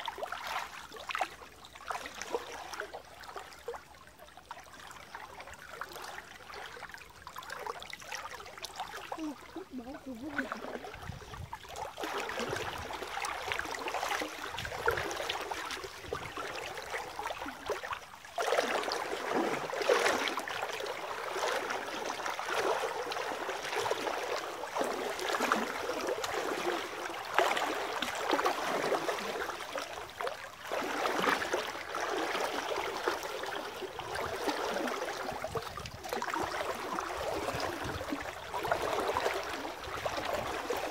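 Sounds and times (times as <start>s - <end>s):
legs wading through stream water: 0.0s - 40.9s.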